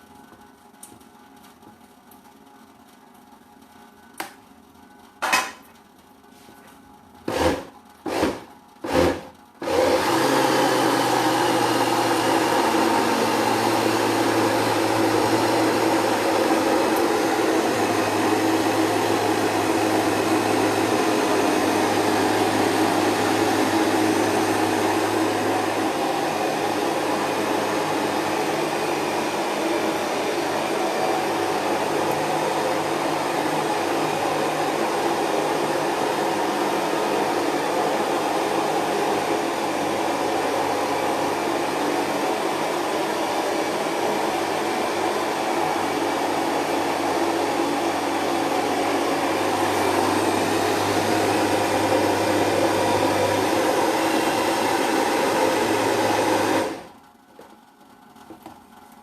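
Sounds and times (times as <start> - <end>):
blender motor running: 7.3 - 56.9.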